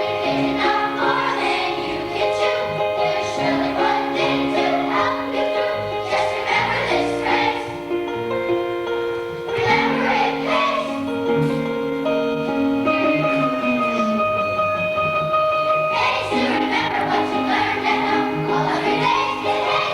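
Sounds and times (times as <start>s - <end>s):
children's choir singing: 0.0s - 8.4s, 9.4s - 13.9s, 15.6s - 19.9s
instrumental accompaniment: 0.0s - 19.9s.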